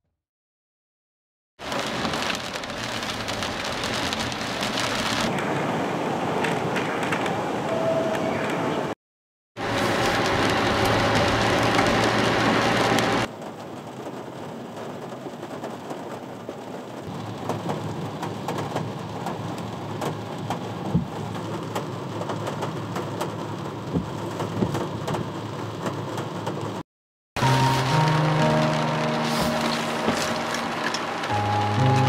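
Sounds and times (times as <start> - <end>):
rain on a car roof: 1.6 - 8.6, 9.6 - 26.8, 27.4 - 32.0.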